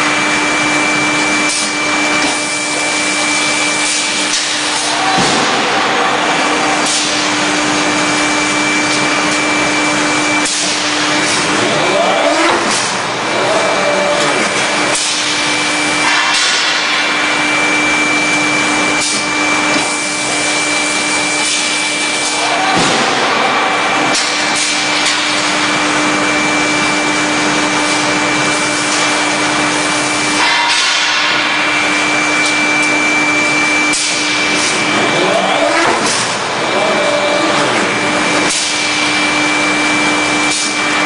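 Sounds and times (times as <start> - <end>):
constant machine hum: 0.0 - 41.0.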